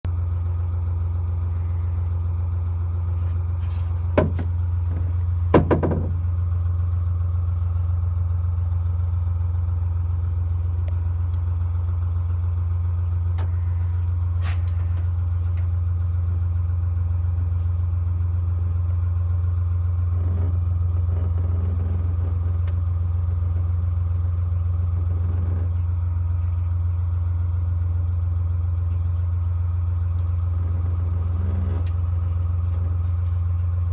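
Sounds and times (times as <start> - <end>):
diesel boat engine running: 0.0 - 33.9.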